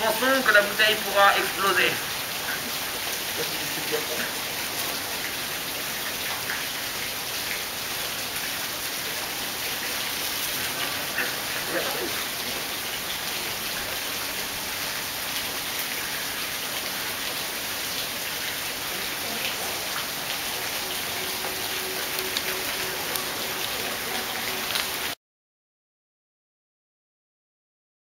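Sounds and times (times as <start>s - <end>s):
garden fountain splashing: 0.0s - 25.2s.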